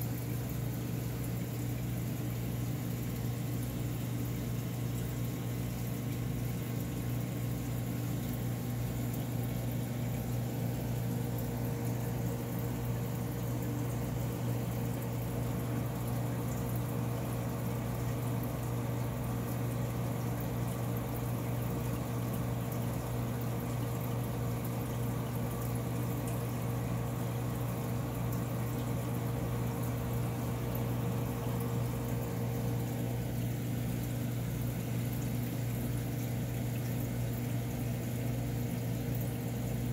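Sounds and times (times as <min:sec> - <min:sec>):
aquarium filter pump humming: 0:00.0 - 0:39.9
moving water: 0:00.0 - 0:39.9.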